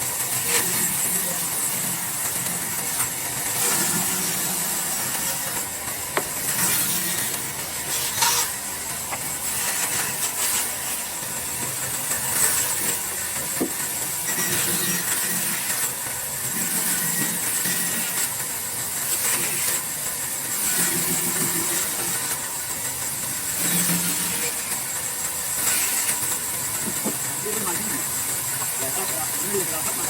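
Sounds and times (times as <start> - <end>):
power tool cutting wood: 0.0 - 30.0.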